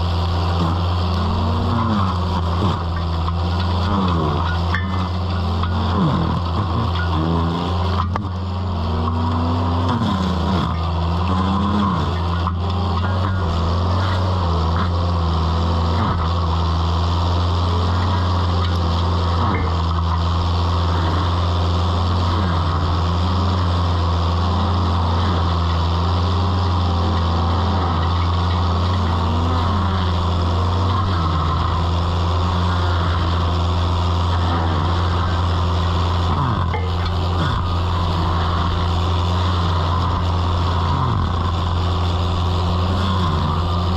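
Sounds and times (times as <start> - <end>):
skid steer engine running: 0.0 - 43.9
stump grinder whine: 0.0 - 43.9.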